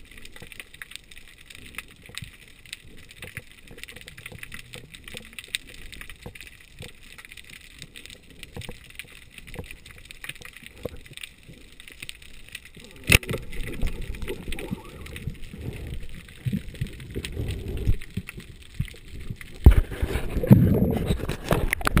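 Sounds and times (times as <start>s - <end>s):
underwater clicks and crackles: 0.0s - 22.0s
water splashing: 0.0s - 22.0s.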